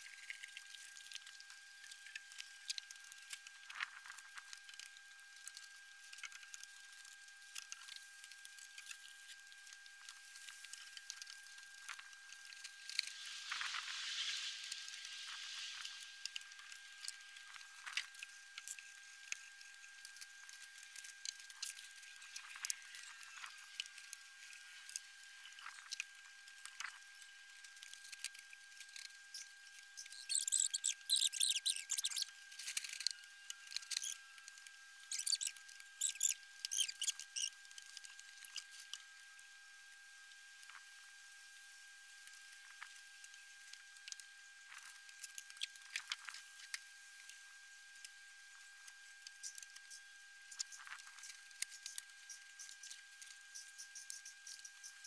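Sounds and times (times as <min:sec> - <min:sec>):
faint high whine: 0:00.0 - 0:55.0
faint steady high hum: 0:00.0 - 0:55.0.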